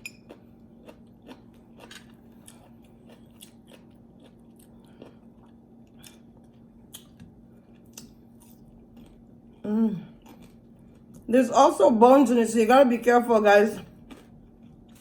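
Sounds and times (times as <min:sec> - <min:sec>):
chewing food: 0:00.0 - 0:11.3, 0:13.8 - 0:15.0.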